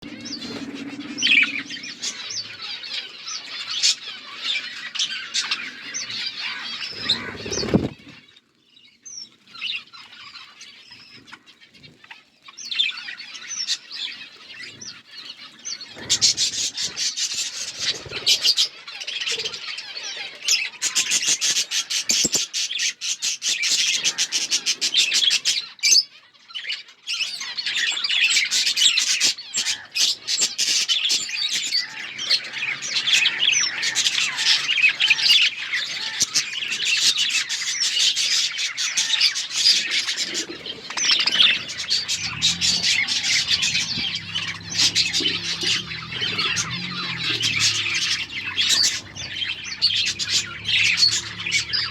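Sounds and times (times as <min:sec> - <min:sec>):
budgerigars chattering and chirping: 0:00.0 - 0:08.3, 0:09.1 - 0:51.9.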